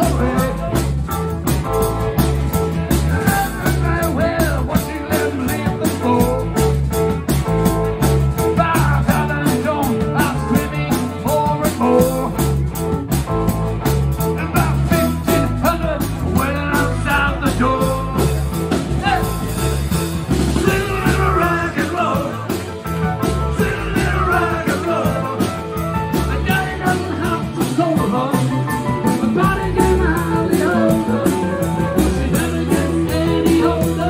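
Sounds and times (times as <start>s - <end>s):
bass guitar: 0.0s - 34.0s
drum kit beat: 0.0s - 34.0s
electric guitar: 0.0s - 34.0s.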